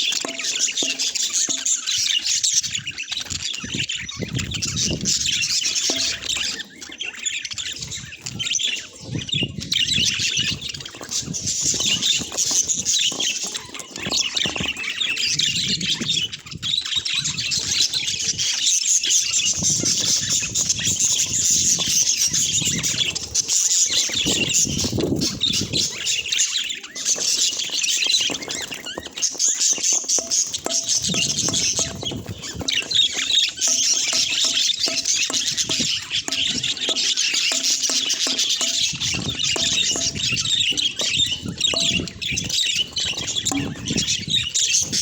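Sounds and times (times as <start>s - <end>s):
budgerigars chattering: 0.0s - 45.0s
rustling and fluttering: 7.6s - 18.5s, 19.1s - 45.0s.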